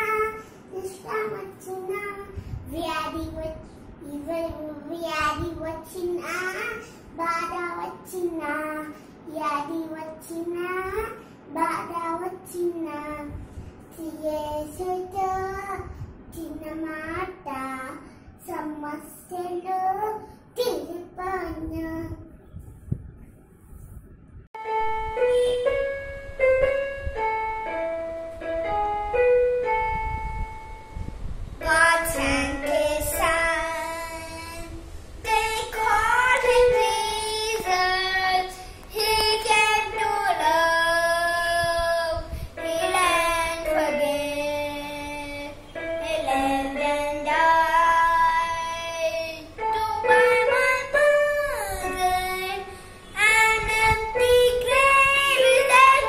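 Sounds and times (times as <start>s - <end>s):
child singing: 0.0s - 22.3s, 31.6s - 56.0s.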